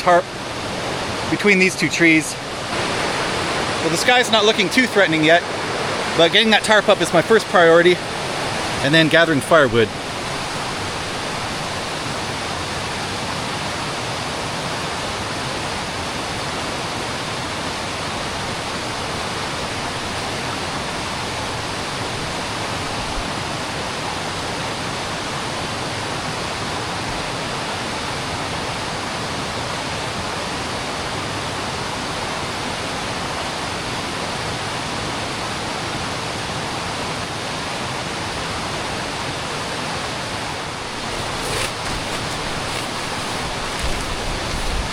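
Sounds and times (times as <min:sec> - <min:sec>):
creek rushing over rocks: 0:00.0 - 0:44.9.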